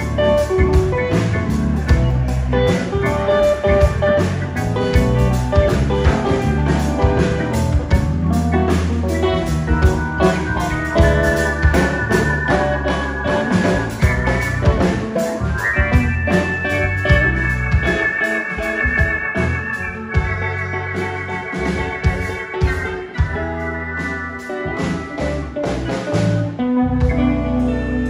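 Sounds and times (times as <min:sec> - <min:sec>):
blues band playing: 0:00.0 - 0:28.0.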